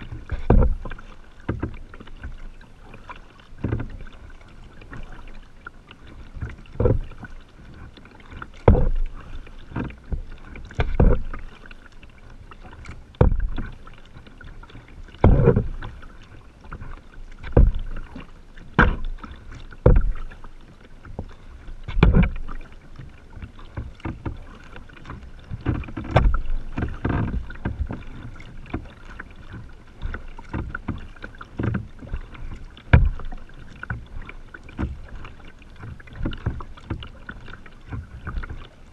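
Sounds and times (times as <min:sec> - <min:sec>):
kayak paddle splashing: 0:00.0 - 0:38.9.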